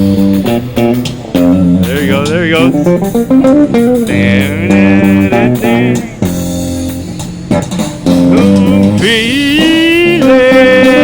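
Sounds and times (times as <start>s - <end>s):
amplified bass guitar notes: 0.0s - 11.0s.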